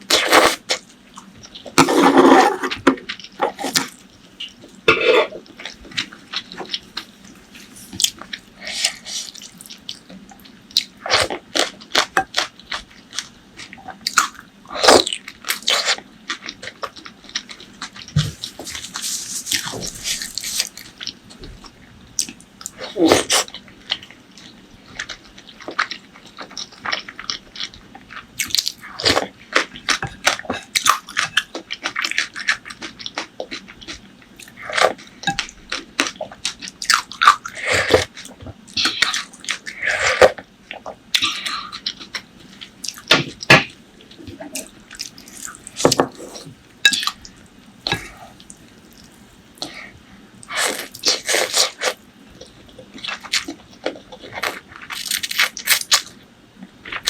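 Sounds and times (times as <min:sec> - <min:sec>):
person chewing food: 0:00.1 - 0:56.2.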